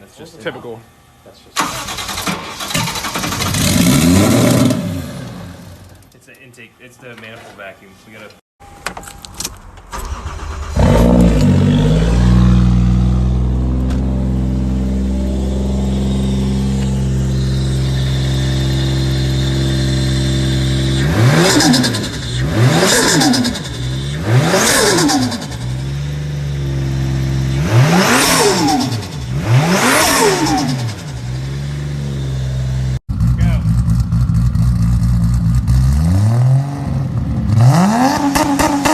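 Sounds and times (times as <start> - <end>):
car engine revving: 1.6 - 5.9, 10.0 - 38.9
car engine starting and idling: 1.6 - 6.1, 8.7 - 36.0.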